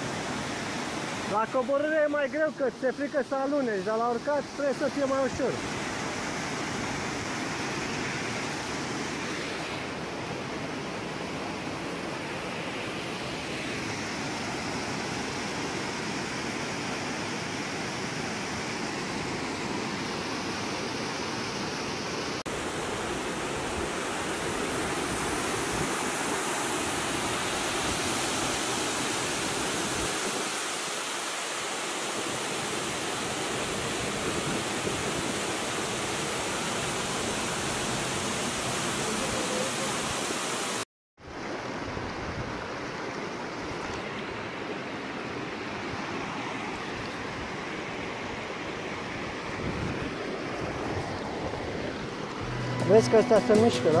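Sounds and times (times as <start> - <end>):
waterfall and rocky stream: 0.0 - 54.0.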